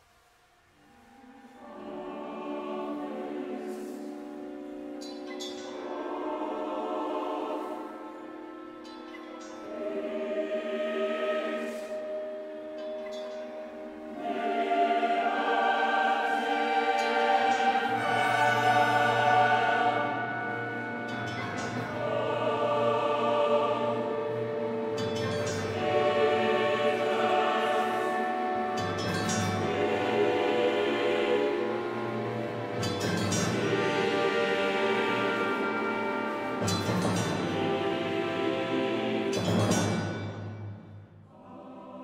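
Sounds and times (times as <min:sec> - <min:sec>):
choir and orchestra sustained chords: 0:00.6 - 0:42.0.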